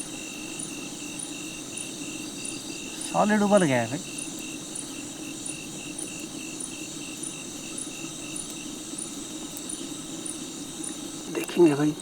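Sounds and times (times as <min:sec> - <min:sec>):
background hiss: 0:00.0 - 0:12.0
cricket chirping: 0:00.0 - 0:12.0.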